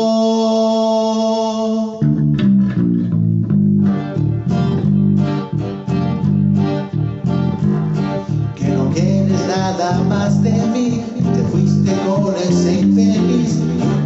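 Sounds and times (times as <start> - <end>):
bass guitar line: 2.0 - 14.0
strummed guitar chords: 2.0 - 14.0.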